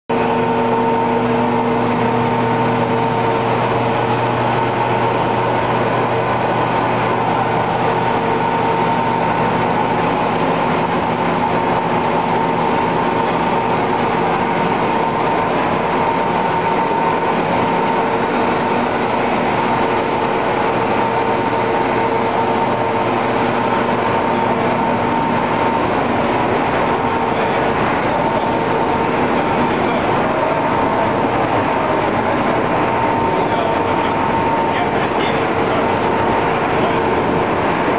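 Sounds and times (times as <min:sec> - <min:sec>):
factory machinery running: 0:00.1 - 0:37.9.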